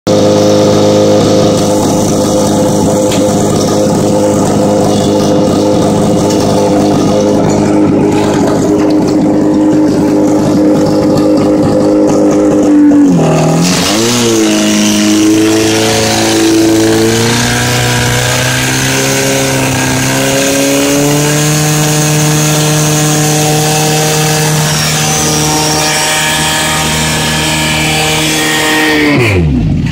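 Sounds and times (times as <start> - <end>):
fire pump engine running: 0.0 - 29.9.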